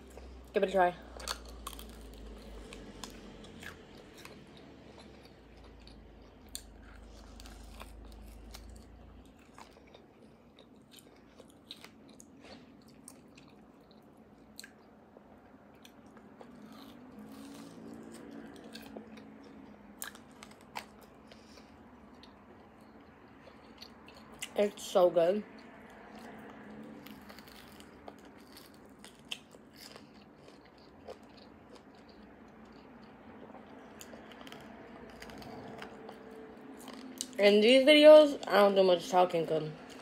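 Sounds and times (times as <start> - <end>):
wet chewing and mouth clicks: 1.0 - 24.6, 25.5 - 37.4.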